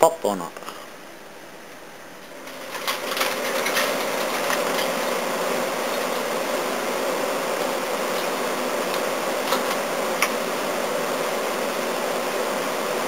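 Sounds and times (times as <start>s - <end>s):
fan motor whirring: 1.7s - 13.0s.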